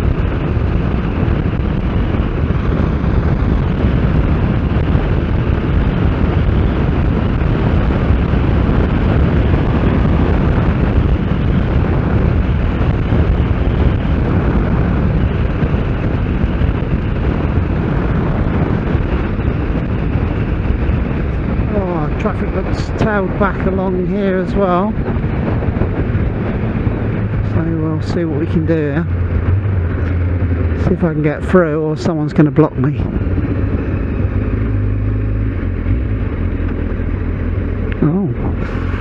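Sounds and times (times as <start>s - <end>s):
motorcycle running and road noise: 0.0s - 39.0s
wind rumble on microphone: 0.0s - 39.0s.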